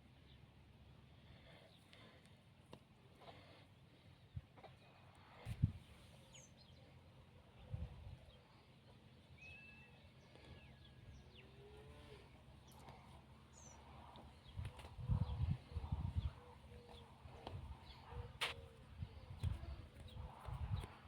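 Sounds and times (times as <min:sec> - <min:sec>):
faint birdsong chirps: 0:00.0 - 0:21.0.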